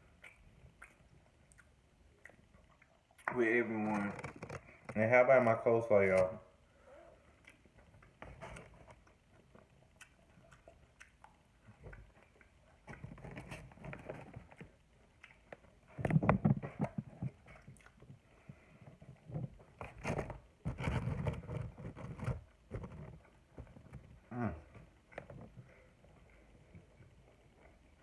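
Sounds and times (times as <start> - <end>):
chewing with wet crunching: 0.0 - 5.1, 6.0 - 28.0.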